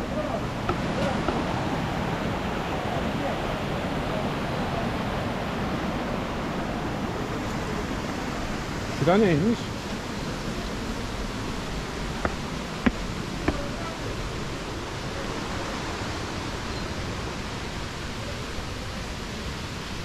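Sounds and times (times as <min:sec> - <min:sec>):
rushing spring water: 0:00.0 - 0:20.0.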